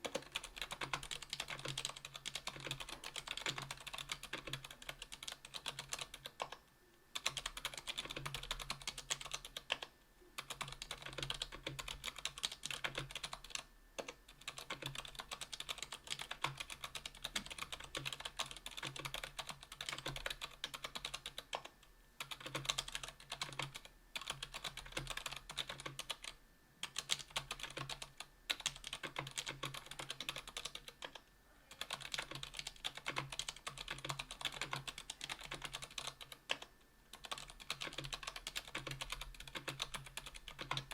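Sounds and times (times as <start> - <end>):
typing on keyboard: 0.0 - 6.6, 7.2 - 40.9.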